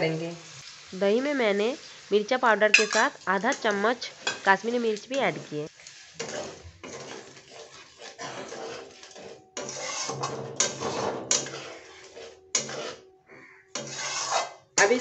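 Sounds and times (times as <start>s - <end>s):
metal spatula scraping a pan: 2.7s - 15.0s.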